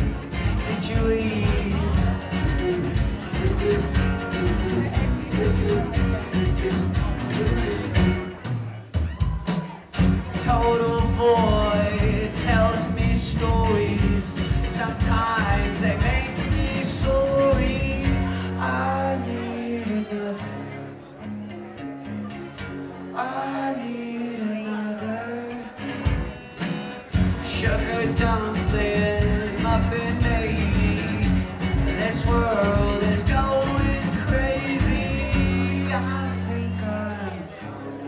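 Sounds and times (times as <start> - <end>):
held bass notes: 0.0 - 9.0, 10.0 - 20.3, 25.8 - 38.0
guitars: 0.0 - 38.0
live band playing: 0.0 - 38.0.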